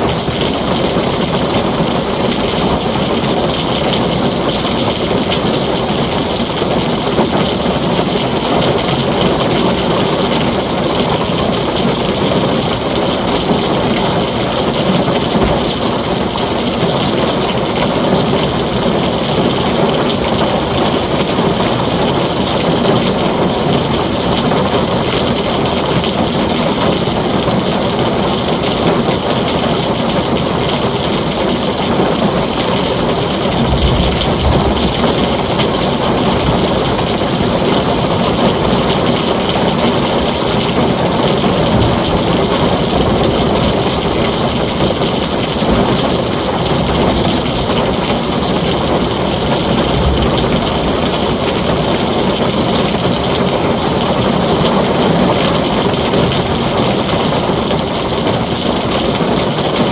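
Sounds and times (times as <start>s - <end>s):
thunder rumble: 0.0s - 29.3s, 29.9s - 58.8s
heavy rain on a tin roof: 0.0s - 59.9s.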